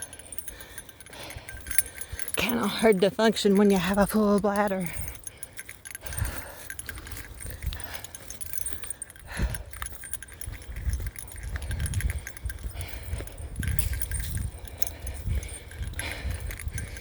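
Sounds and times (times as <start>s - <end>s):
small bell jingling: 0.0s - 17.0s.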